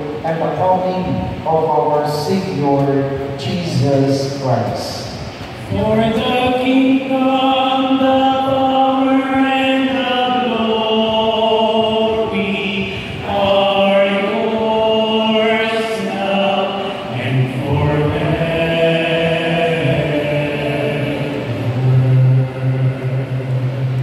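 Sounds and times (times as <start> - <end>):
low male voice singing: 0.0 - 24.0
slow liturgical chant: 0.0 - 24.0.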